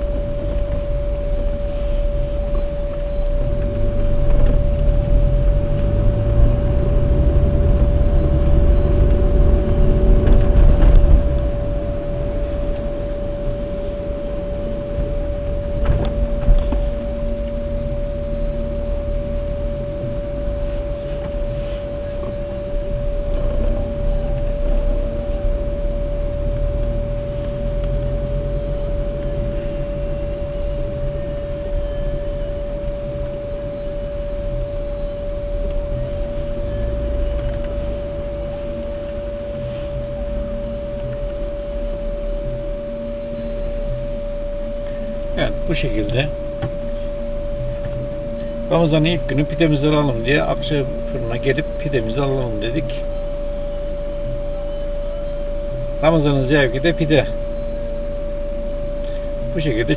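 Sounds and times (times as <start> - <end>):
car engine and road rumble: 0.0 - 59.9
high-pitched tone: 0.0 - 59.9.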